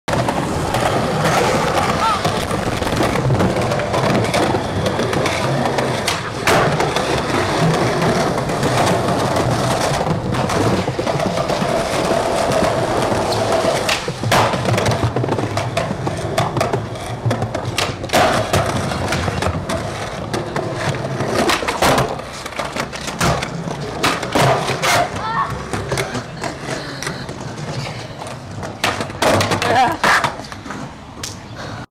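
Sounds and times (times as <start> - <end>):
skateboard clacking: 0.1 - 31.8
skateboard wheels rolling on concrete: 0.1 - 31.9.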